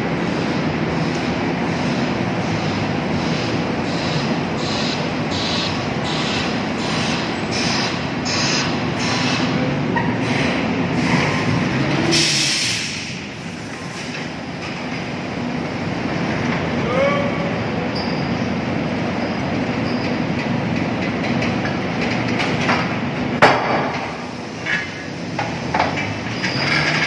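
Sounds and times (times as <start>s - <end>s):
rumble of vehicles and machinery: 0.0s - 27.0s.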